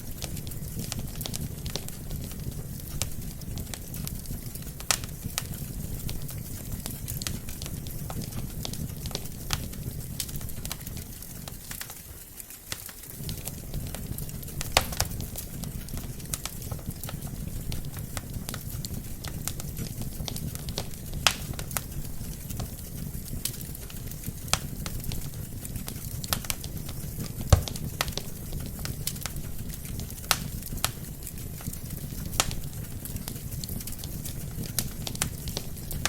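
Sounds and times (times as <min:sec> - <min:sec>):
loud fire pops: 0:00.0 - 0:36.0
wood fire crackling: 0:00.0 - 0:36.0.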